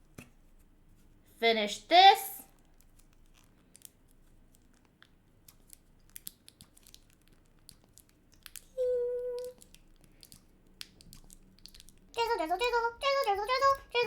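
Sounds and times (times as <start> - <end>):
food packaging crinkling: 2.5 - 14.0.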